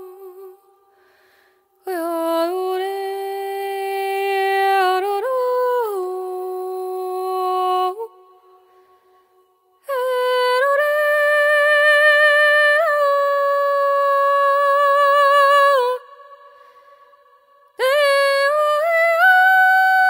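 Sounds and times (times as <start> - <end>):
woman singing wordless melody: 0.0 - 1.2, 1.8 - 20.0.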